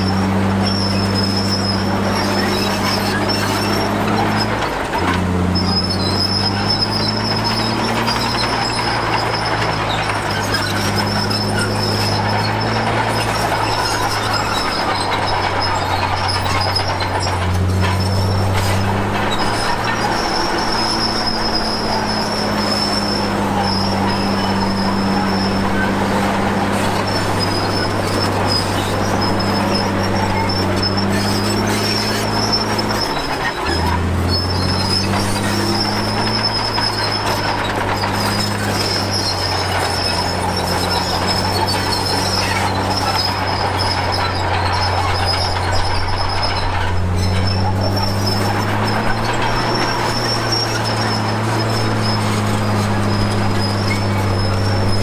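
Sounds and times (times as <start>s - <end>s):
bulldozer diesel engine running: 0.0s - 55.0s
high metallic squeal: 0.0s - 55.0s.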